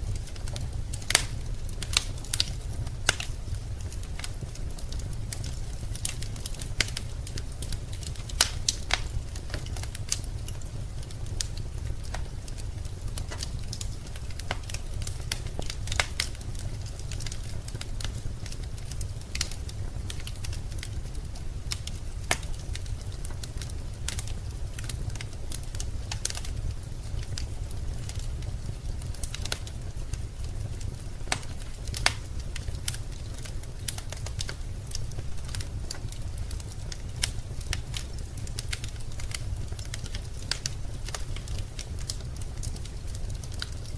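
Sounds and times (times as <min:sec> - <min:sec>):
crackles and pops of burning logs: 0:00.0 - 0:43.9
low rumble of flames: 0:00.0 - 0:43.9.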